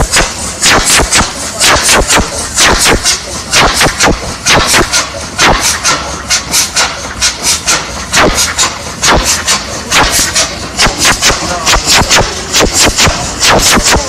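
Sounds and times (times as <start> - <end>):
low engine rumble: 0.0 - 14.0
old engine exhaust bangs: 0.0 - 14.0.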